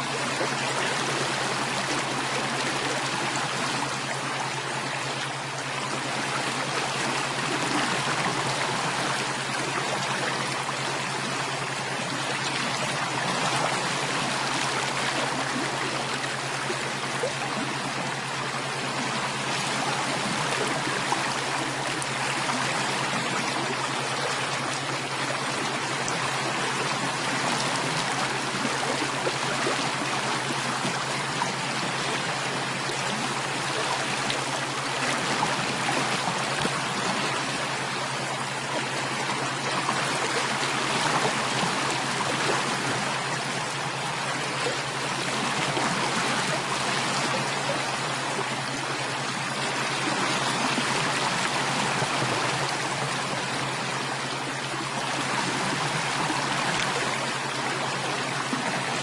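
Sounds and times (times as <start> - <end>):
stream water rushing and trickling: 0.0 - 59.0.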